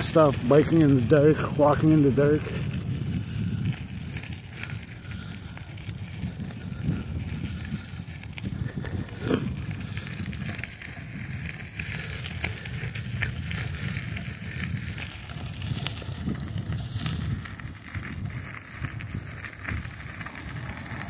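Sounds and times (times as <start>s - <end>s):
bicycle clicks and rattles: 0.0s - 21.0s
bicycle tyre noise: 0.0s - 21.0s
wind rumble: 0.0s - 21.0s.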